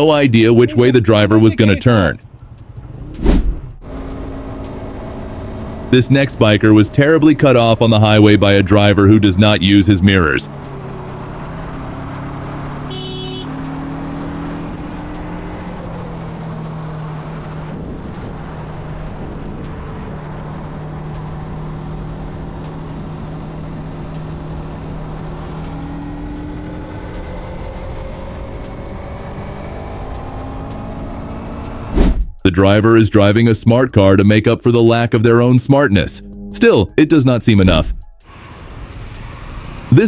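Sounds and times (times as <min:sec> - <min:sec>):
motorcycle engine droning: 0:00.0 - 0:31.9, 0:33.7 - 0:40.0
wind and road noise: 0:00.0 - 0:40.0.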